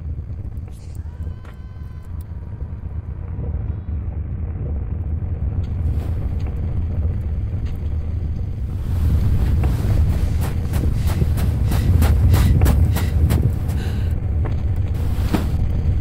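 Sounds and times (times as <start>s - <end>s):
low steady rumbling: 0.0s - 16.0s.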